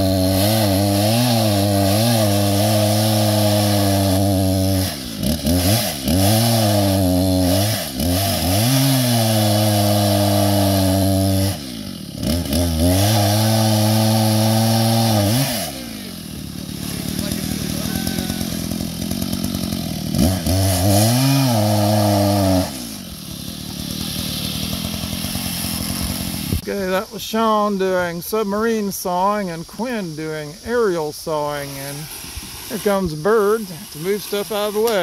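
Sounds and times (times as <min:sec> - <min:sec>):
chainsaw running at high revs: 0:00.0 - 0:26.6, 0:31.7 - 0:35.0.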